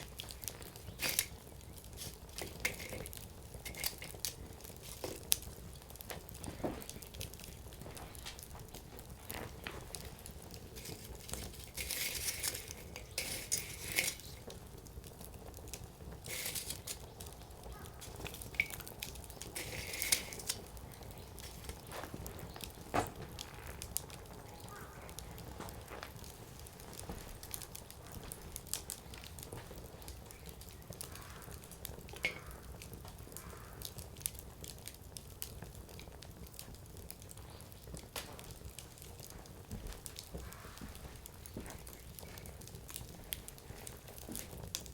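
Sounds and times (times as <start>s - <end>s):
firewood crackling and popping: 0.0s - 44.9s.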